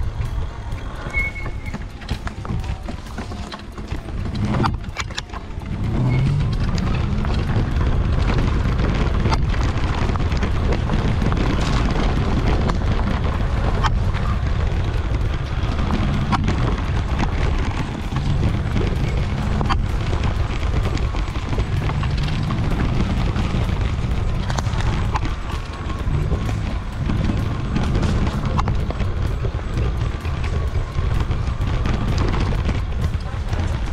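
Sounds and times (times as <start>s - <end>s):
bike knocking and rattling: 0.0s - 33.9s
wind rumbling on microphone: 0.0s - 33.9s.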